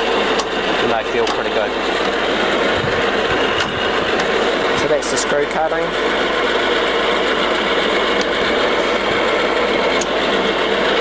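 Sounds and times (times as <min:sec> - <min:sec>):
lathe motor and gearing drone: 0:00.0 - 0:11.0.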